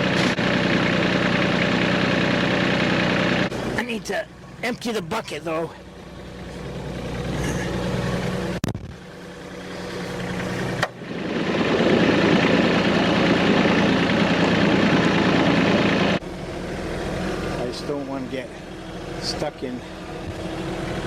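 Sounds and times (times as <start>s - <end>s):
tractor engine working: 0.0s - 21.0s.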